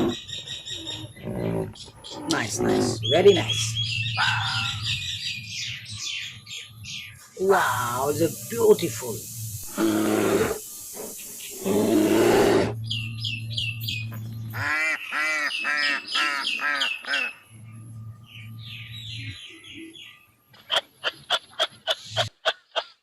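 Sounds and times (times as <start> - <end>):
birds chirping and calling: 0.0 - 9.0, 9.6 - 23.0.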